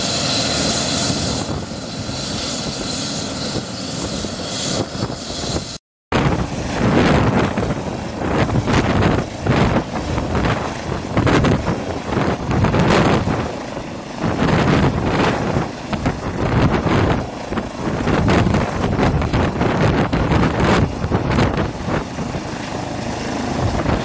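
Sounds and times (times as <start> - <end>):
helicopter rotor and turbine: 0.0 - 24.0.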